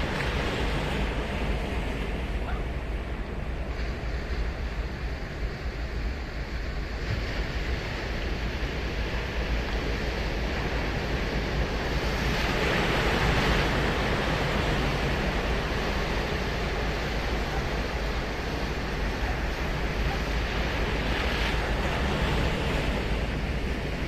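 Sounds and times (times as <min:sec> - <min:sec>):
ocean surf on beach: 0:00.0 - 0:24.0
wind rumble on microphone: 0:00.0 - 0:24.0.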